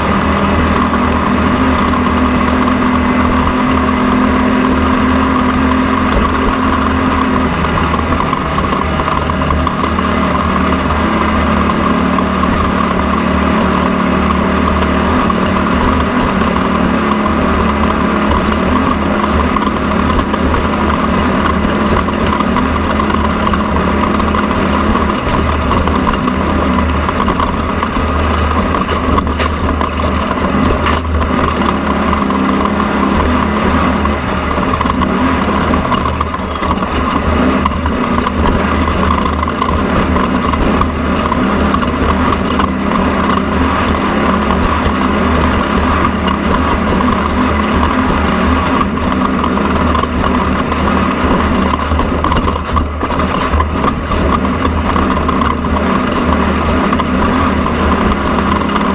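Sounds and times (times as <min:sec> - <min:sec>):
vehicle engine running: 0:00.0 - 0:58.9.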